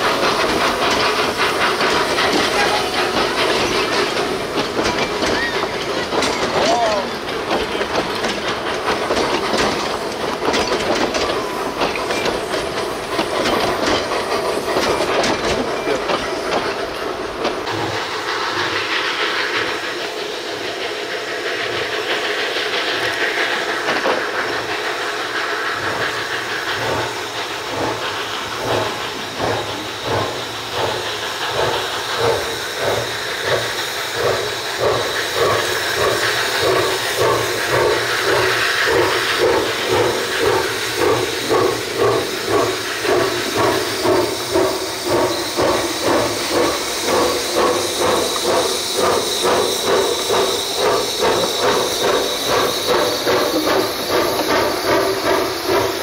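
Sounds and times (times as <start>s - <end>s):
steam hissing: 0.0s - 56.0s
train wheels clattering on rails: 0.0s - 56.0s.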